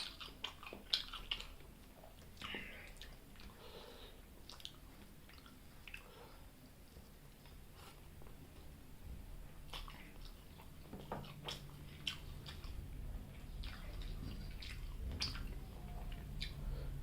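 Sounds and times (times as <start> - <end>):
wet chewing and lip smacks: 0.0 - 3.6, 4.3 - 8.4, 9.6 - 16.8
low steady hum: 0.0 - 17.0.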